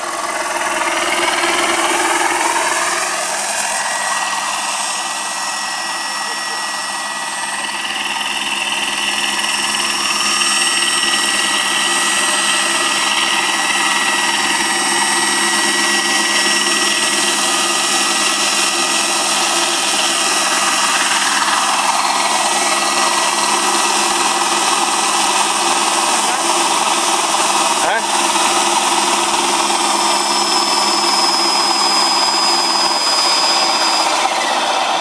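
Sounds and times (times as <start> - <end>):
model helicopter rotor whine: 0.0 - 35.0.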